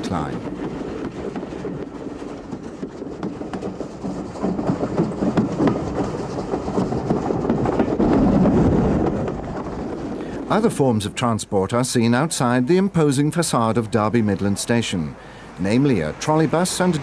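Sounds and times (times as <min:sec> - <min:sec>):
steam train running: 0:00.0 - 0:17.0
train wheels clicking over rail joints: 0:00.0 - 0:17.0.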